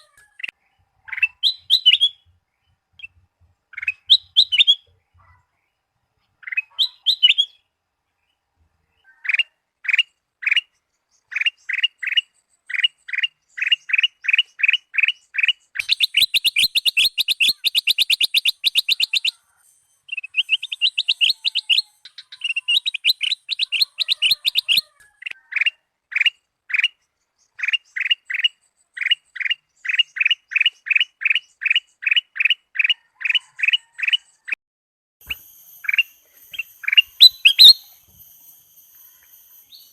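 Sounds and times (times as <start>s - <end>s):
bird chirping and trilling: 0.0s - 5.4s, 6.4s - 7.7s, 9.0s - 34.5s, 35.2s - 39.9s.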